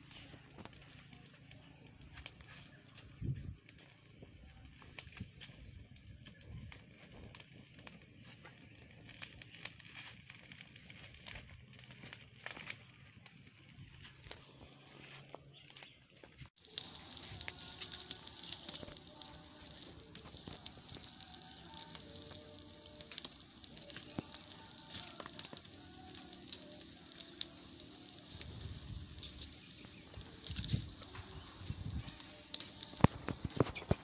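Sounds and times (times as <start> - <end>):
wood fire crackling and sizzling: 0.0 - 34.0.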